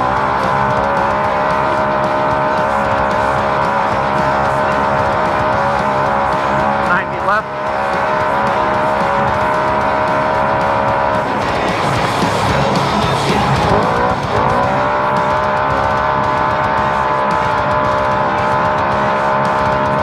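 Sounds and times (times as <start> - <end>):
utv engine running at high revs: 0.0 - 20.0.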